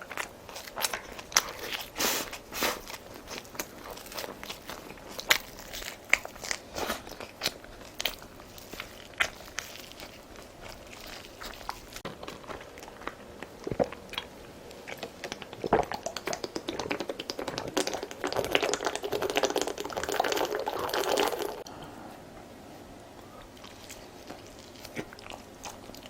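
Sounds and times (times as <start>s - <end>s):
eating clicks and bites: 0.0s - 21.7s, 23.4s - 26.0s
wet mouth noises: 0.0s - 21.7s.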